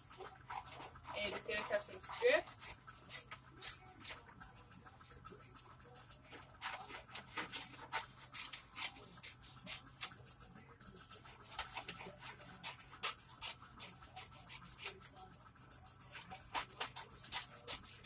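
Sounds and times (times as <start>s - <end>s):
scissors snipping paper: 0.2s - 4.7s, 6.2s - 10.3s, 11.3s - 15.2s, 16.0s - 18.0s.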